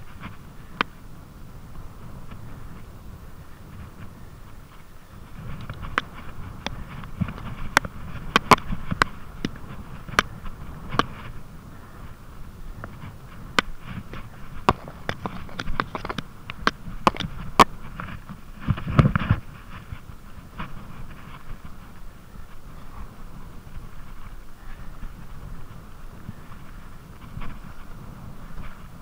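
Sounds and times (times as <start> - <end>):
bike knocking and rattling: 0.0 - 29.0
bike tyres rumbling on turf: 0.0 - 29.0.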